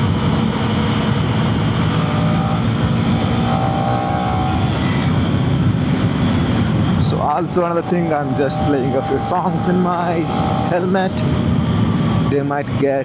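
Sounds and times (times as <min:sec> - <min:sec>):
motorcycle engine running: 0:00.0 - 0:12.7
wind noise: 0:00.0 - 0:13.0.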